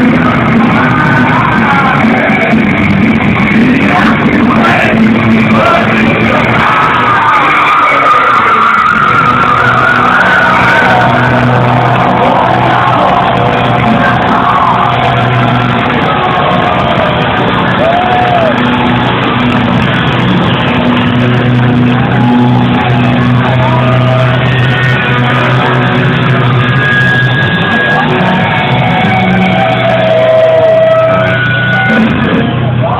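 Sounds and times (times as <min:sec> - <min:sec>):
distorted electric guitar lead: 0:00.0 - 0:32.9
metal band playing: 0:00.0 - 0:32.9.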